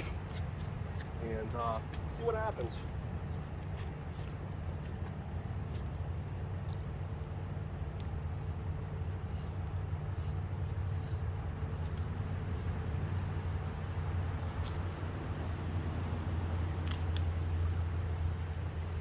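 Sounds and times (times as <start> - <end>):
insect chirring: 0.0 - 19.0.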